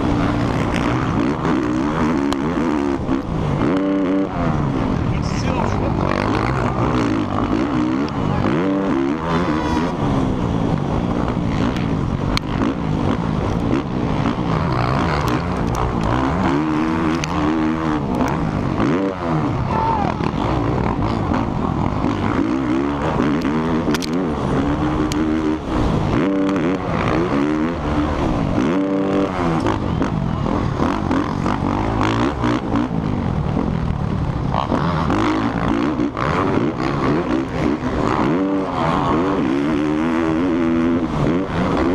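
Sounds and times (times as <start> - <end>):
motocross engine revving: 0.0 - 41.9.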